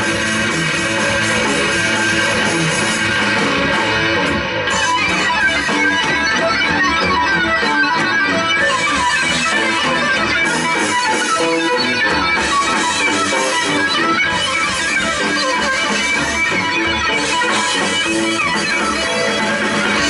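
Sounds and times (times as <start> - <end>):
electric guitar busy line: 0.0 - 20.0
live instrumental rock trio: 0.0 - 20.0.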